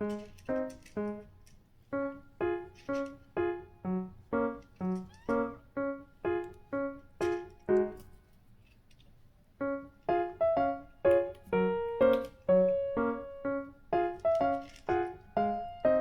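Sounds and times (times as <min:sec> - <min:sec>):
light piano tune: 0:00.0 - 0:08.6, 0:09.5 - 0:16.0.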